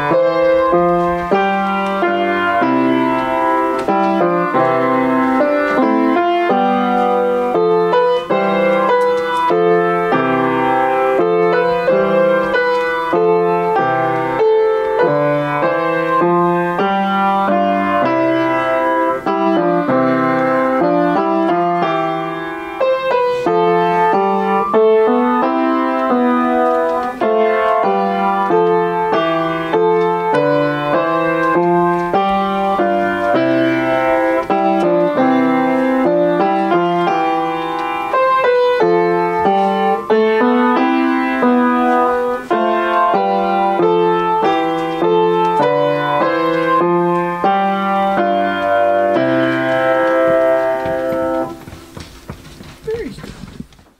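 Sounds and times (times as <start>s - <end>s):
upright piano playing: 0.0s - 53.2s.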